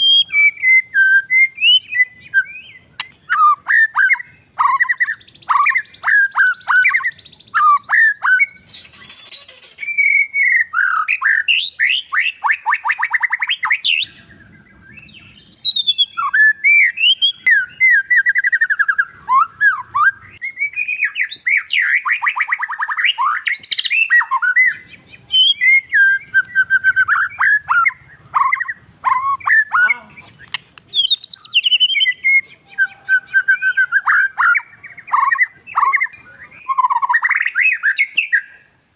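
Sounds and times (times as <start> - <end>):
faint high hiss: 0.0 - 38.9
songbird singing whistles and trills: 0.0 - 38.9.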